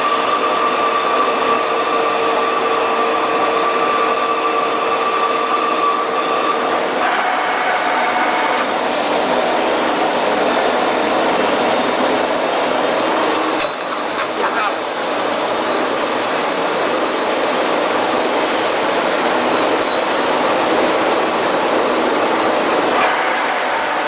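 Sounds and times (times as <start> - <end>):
lathe mechanical whine: 0.0 - 24.0.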